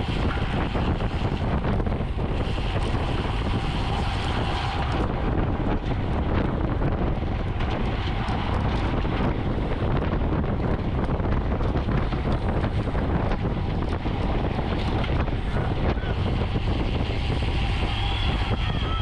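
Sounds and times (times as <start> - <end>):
rushing noise of riding: 0.0 - 19.0
wind buffeting microphone: 0.0 - 19.0.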